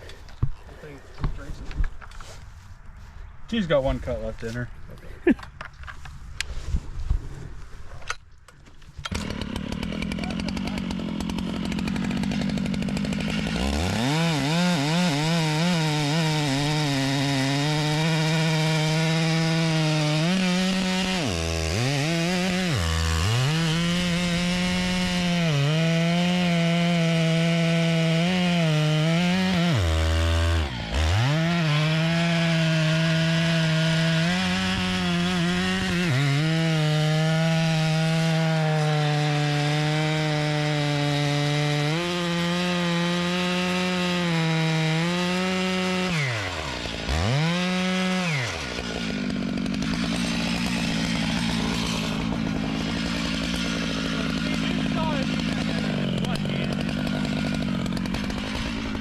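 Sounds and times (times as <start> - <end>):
chainsaw cutting through log: 8.9 - 59.0.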